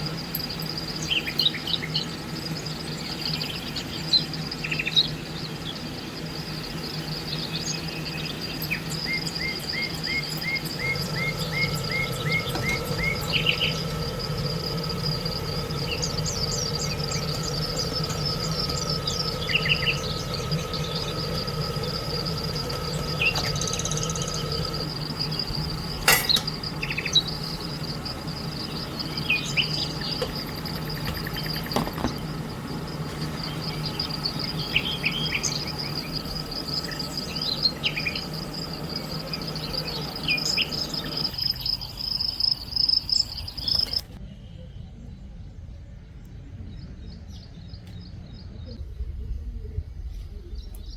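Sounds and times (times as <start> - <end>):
high-pitched insect drone: 0.0 - 44.2
birds chirping: 0.0 - 50.9.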